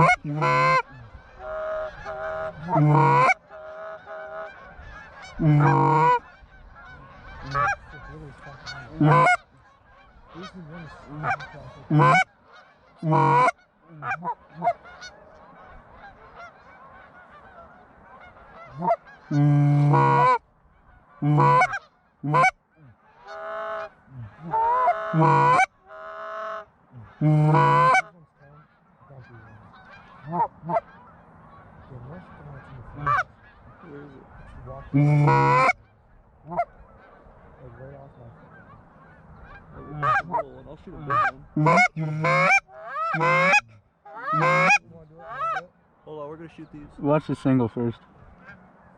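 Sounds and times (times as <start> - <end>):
geese honking loudly: 0.0 - 48.9.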